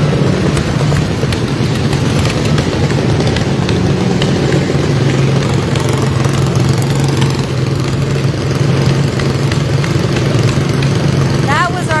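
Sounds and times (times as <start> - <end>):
lawnmower engines running: 0.0 - 12.0.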